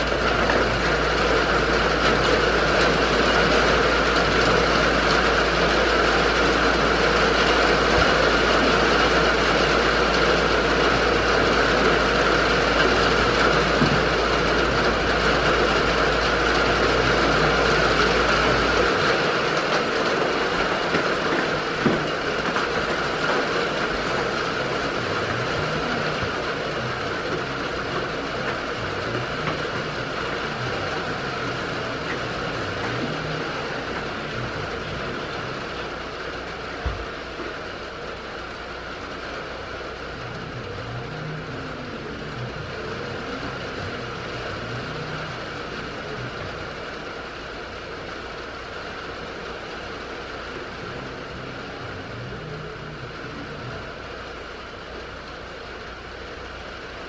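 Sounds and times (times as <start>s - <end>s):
rain on a roof: 0.0s - 57.0s.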